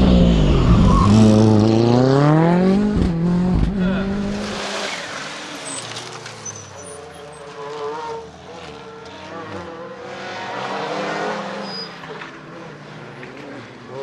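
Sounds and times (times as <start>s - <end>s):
rally car engines revving: 0.0s - 14.0s.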